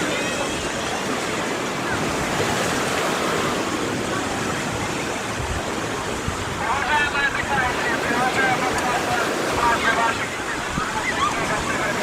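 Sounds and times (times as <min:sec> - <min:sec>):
waves washing onto shore: 0:00.0 - 0:12.0.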